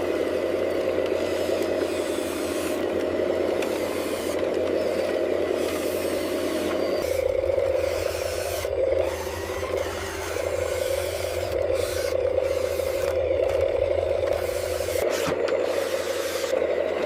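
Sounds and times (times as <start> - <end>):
machine scraping and clattering: 0.7 - 17.0
toy machine motor running: 1.2 - 17.0.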